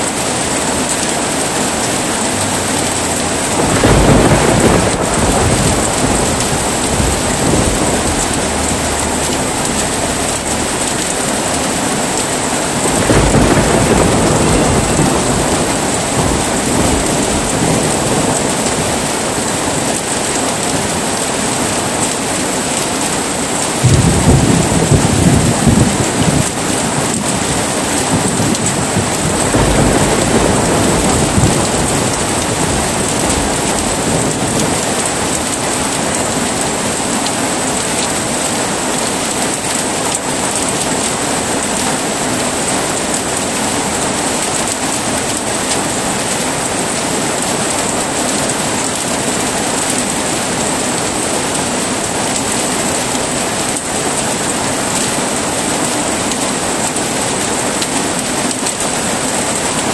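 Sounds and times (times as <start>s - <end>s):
heavy rain: 0.0s - 59.9s
thunder rumbling: 0.1s - 59.9s.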